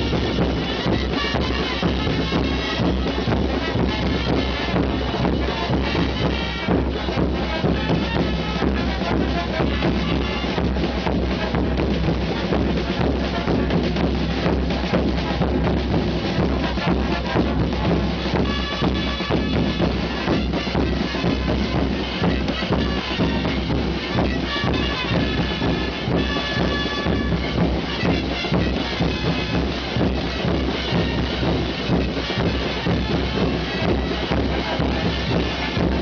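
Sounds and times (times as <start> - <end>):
drum beats: 0.0 - 36.0.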